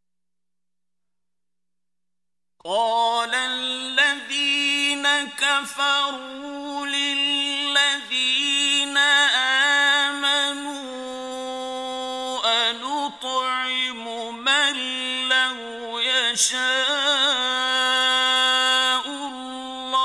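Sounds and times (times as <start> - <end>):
man reciting melodically: 2.6 - 20.0.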